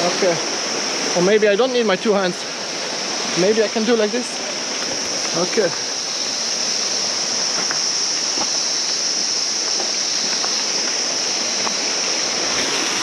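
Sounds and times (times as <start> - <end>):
high-pitched hiss: 0.0 - 13.0
waterfall rushing: 0.0 - 13.0.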